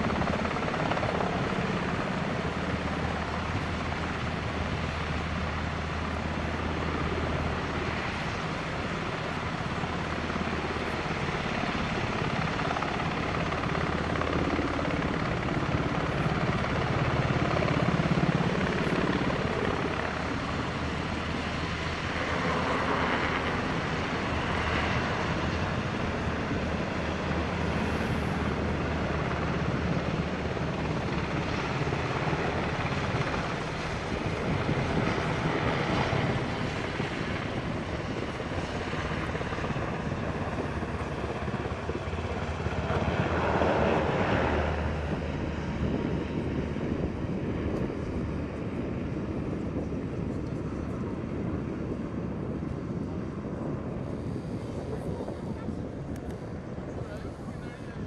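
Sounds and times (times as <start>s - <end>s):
helicopters flying low: 0.0s - 58.0s.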